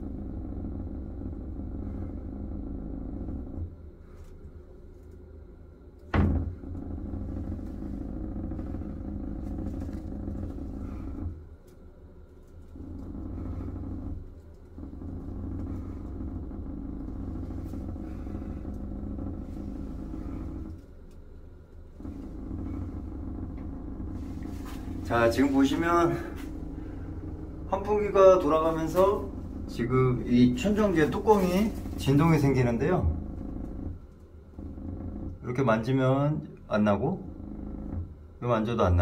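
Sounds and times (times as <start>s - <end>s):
exhaust fan hum with panel buzzing: 0.0s - 39.0s.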